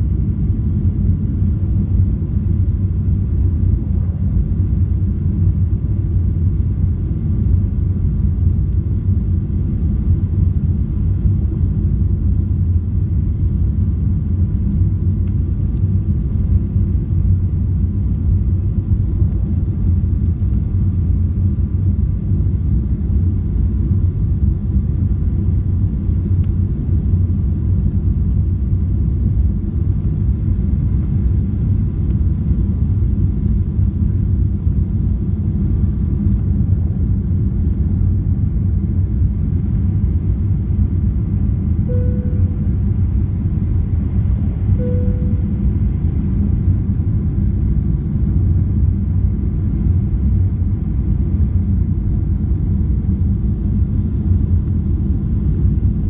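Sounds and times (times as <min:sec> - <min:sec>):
faint steady hum: 0:00.0 - 0:56.0
low rumble of aircraft engines: 0:00.0 - 0:56.0.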